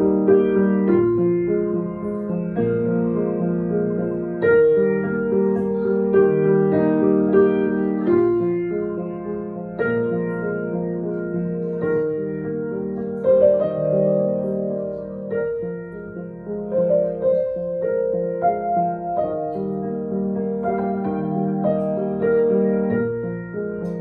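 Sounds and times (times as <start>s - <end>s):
grand piano chords: 0.0s - 24.0s.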